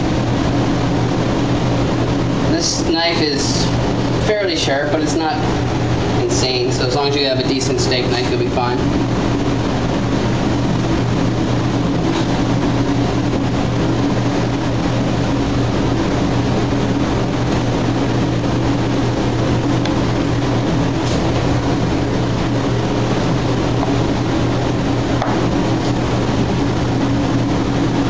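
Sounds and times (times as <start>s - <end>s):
machinery drone: 0.0s - 28.0s.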